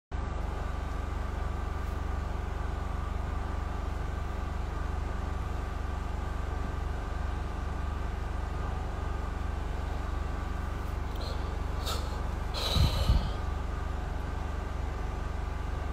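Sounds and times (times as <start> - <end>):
low machine hum: 0.1 - 15.9
faint steady whine: 0.2 - 15.9.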